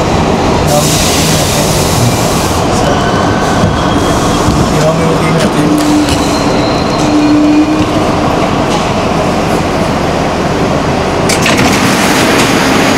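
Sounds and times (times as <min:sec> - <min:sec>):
subway train wheels rumbling: 0:00.0 - 0:12.9.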